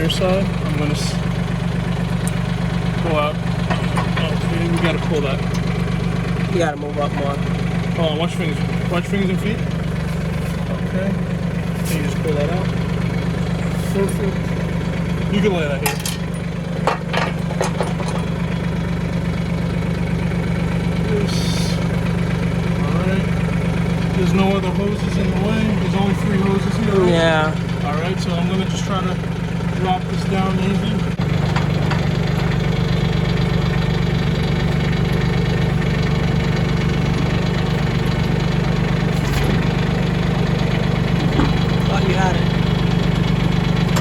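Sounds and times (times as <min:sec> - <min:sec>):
tractor diesel engine idling: 0:00.0 - 0:44.0.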